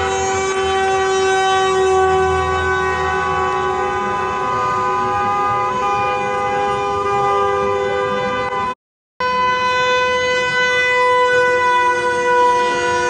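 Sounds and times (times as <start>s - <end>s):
car horns honking: 0.0s - 13.0s.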